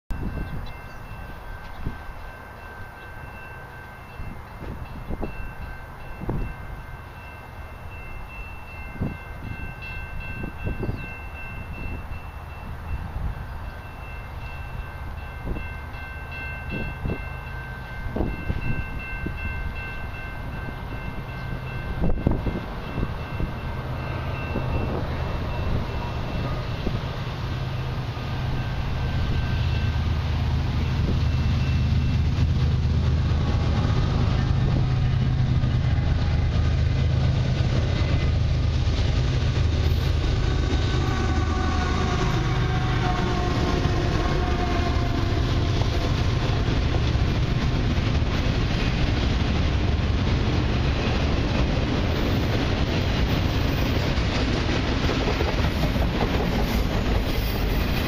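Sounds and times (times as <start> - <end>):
diesel locomotive engine drone: 0.1 - 58.0
wind buffeting the microphone: 4.2 - 6.8, 8.9 - 13.7, 18.0 - 58.0.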